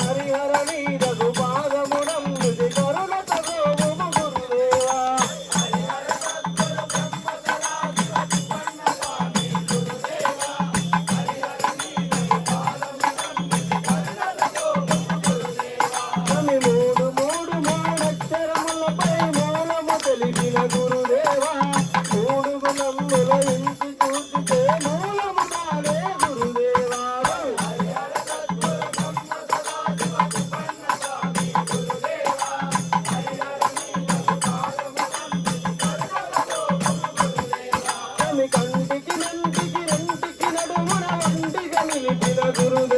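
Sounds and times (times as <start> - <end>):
rattling hand percussion: 0.0 - 42.9
steady drum beat: 0.0 - 42.9.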